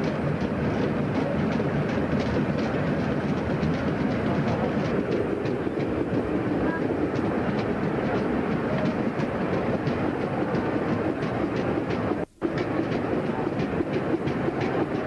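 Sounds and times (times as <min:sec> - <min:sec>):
railway carriage rumble: 0:00.0 - 0:15.0
wheels clicking over rail joints: 0:00.0 - 0:15.0.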